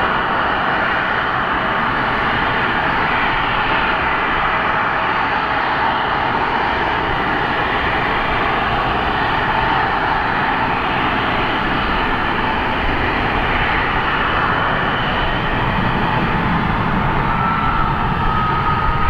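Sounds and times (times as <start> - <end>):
jet engines hissing and whining: 0.0 - 19.0.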